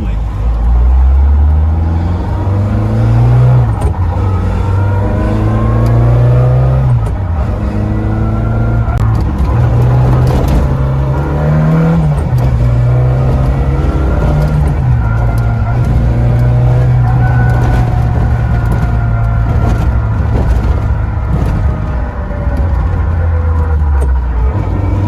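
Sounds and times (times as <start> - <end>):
car engine accelerating through gears: 0.0 - 25.0.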